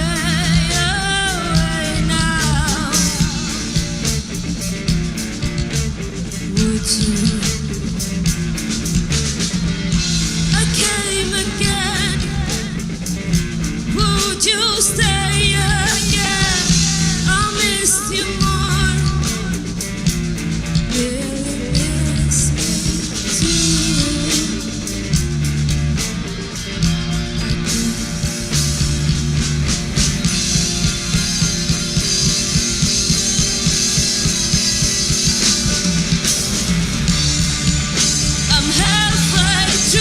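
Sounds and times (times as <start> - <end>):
rock band playing: 0.0 - 40.0.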